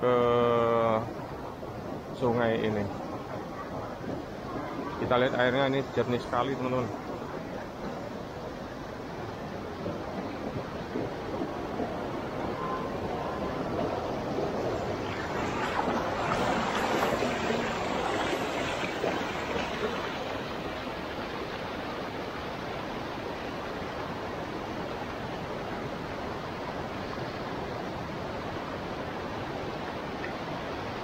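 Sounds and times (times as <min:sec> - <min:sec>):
river rushing over stones: 0:00.0 - 0:31.0.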